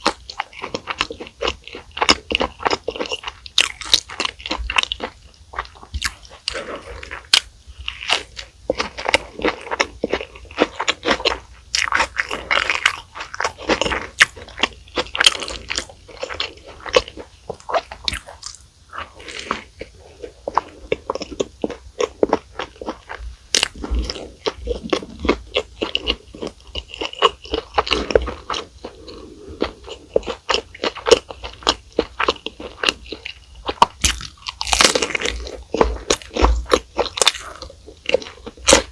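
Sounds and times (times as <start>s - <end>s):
crunchy food chewing: 0.0s - 38.9s
wet chewing: 0.0s - 38.9s.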